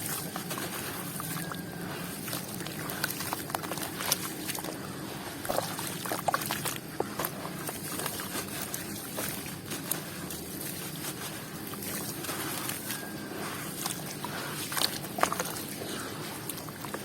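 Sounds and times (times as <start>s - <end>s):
wet sloshing: 0.0s - 17.0s.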